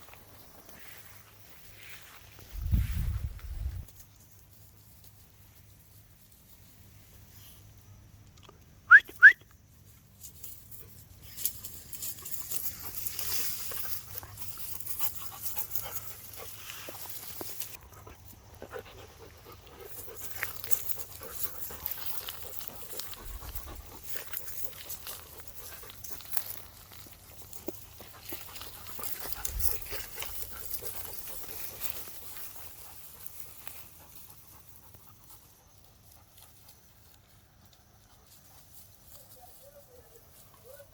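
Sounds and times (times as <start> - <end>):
rustling and scuffling: 0.0 - 7.7, 9.9 - 40.9.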